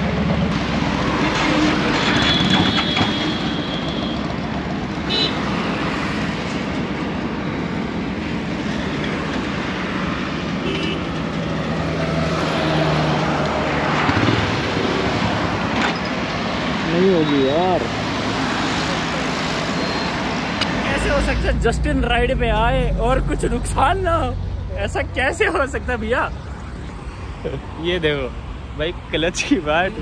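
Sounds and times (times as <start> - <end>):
vehicles passing on highway: 0.0 - 30.0.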